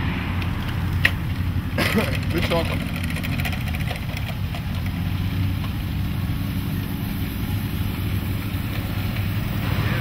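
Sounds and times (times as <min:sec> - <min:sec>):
moped engine running: 0:00.0 - 0:10.0.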